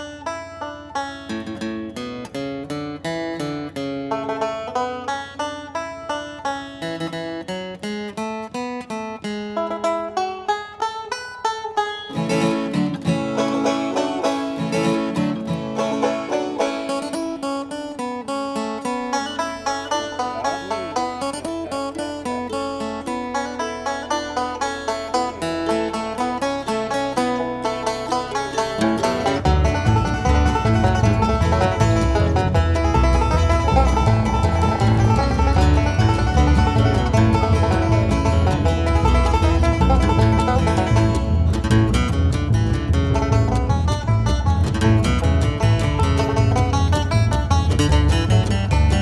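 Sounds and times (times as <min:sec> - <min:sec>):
acoustic guitar and banjo picking: 0:00.0 - 0:49.0.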